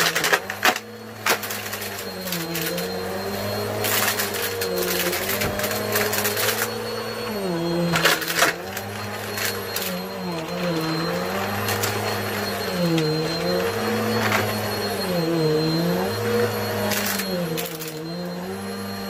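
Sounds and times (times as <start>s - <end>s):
vacuum cleaner motor running: 0.0s - 19.0s.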